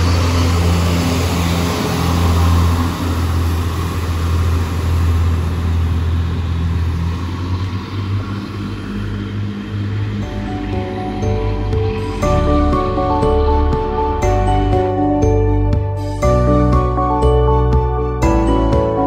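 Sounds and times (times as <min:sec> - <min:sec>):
diesel train engine droning: 0:00.0 - 0:19.0
wheel and rail noise: 0:00.0 - 0:19.0.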